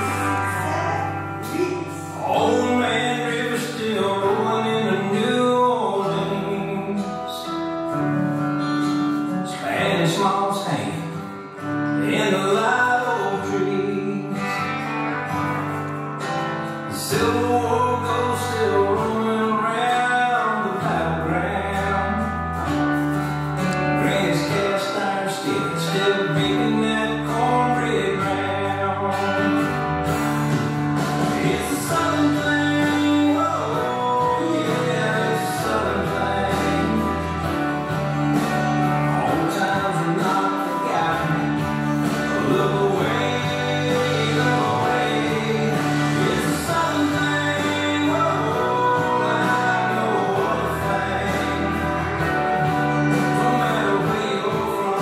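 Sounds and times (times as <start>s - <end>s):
song with singing over guitar: 0.0s - 55.0s.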